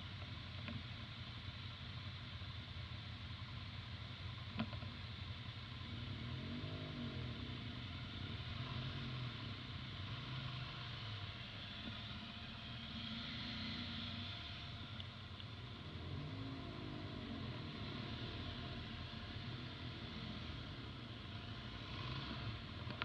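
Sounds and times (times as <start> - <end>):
other motorcycles nearby: 0.0 - 23.0.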